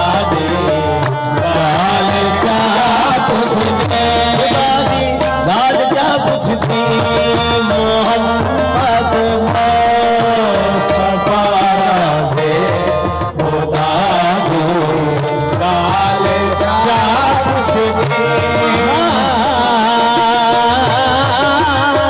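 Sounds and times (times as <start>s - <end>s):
ornamented vocal melody: 0.0s - 22.0s
tabla strokes: 0.0s - 22.0s.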